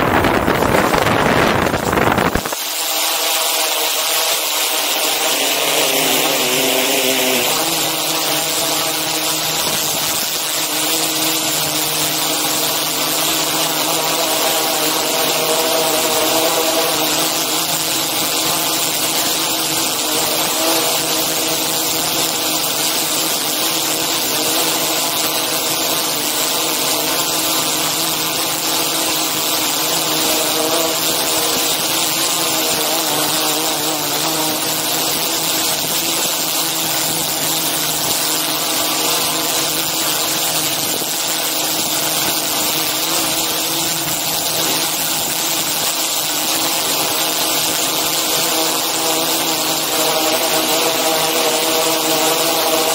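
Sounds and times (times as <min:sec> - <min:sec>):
drone propellers humming: 0:00.0 - 0:52.9.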